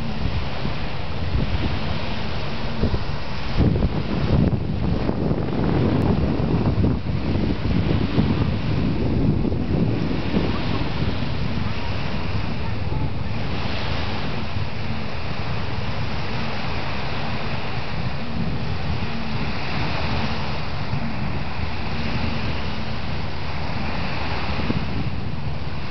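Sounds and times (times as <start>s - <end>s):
small lake waves washing: 0.0s - 25.9s
wind buffeting microphone: 0.0s - 25.9s.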